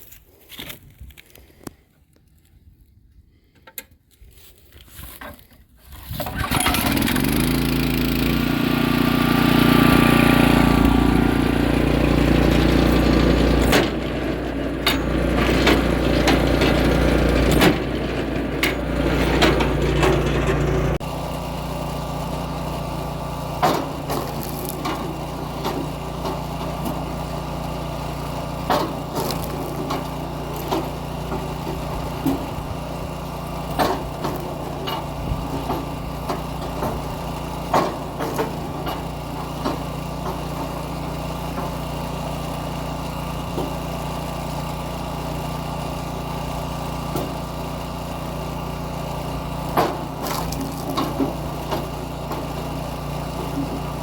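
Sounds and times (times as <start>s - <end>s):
small gas engine running: 5.9s - 54.0s.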